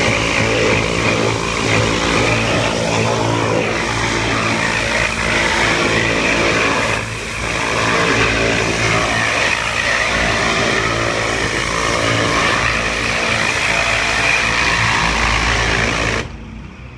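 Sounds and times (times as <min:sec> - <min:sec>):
pressure washer jet hissing: 0:00.0 - 0:16.4
pressure washer motor running: 0:00.0 - 0:16.4.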